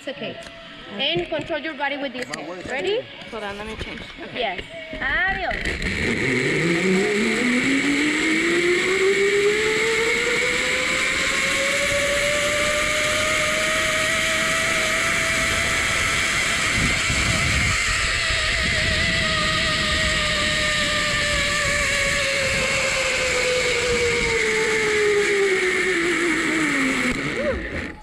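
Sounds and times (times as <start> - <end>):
zipline pulley whine: 4.8 - 28.0.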